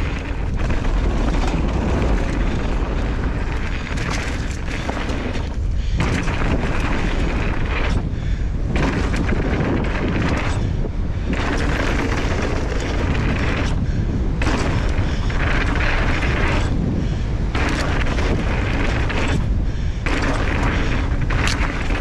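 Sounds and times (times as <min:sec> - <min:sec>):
bike tyres and drivetrain rushing: 0:00.0 - 0:22.0
wind rumble on microphone: 0:00.0 - 0:22.0.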